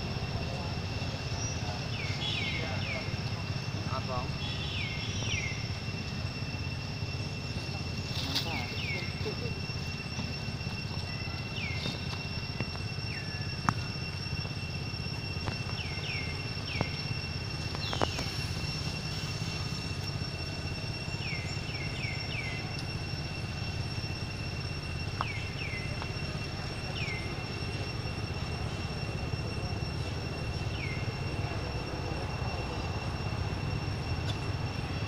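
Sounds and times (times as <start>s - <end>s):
insect drone: 0.0s - 35.0s.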